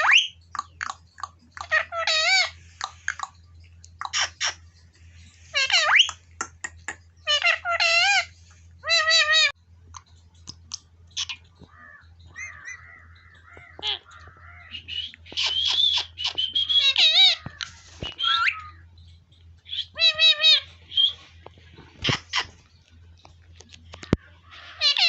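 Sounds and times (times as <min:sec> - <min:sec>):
parrot screeching and chattering: 0:00.0 - 0:03.4, 0:04.0 - 0:04.8, 0:05.4 - 0:09.6, 0:10.5 - 0:18.8, 0:19.6 - 0:22.7, 0:24.4 - 0:25.0.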